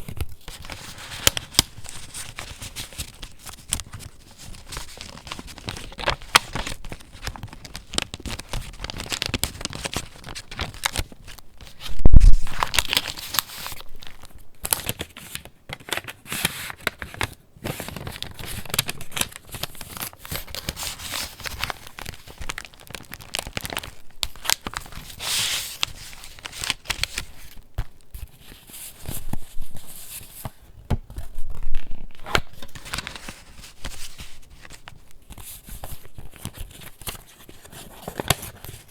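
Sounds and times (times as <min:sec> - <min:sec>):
paper pages crinkling and rustling: 0:00.0 - 0:38.9.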